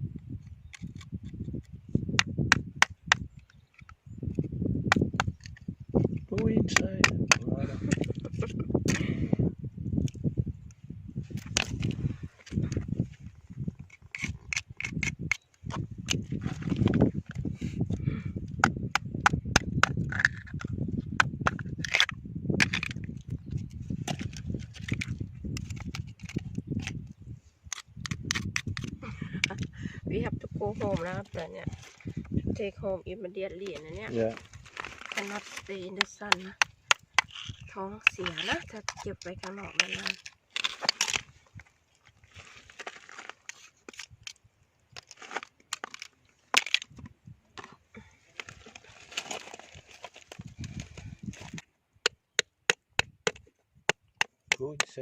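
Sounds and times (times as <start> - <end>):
oyster shells clacking: 0.6 - 9.1, 11.4 - 12.9, 13.7 - 17.5, 18.5 - 29.8, 33.6 - 47.8, 48.4 - 55.0.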